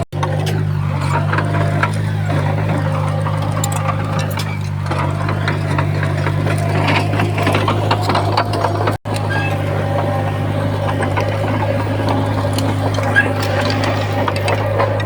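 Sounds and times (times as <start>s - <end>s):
bulldozer diesel engine running: 0.0s - 15.0s
machine clanks and rattles: 0.0s - 15.0s.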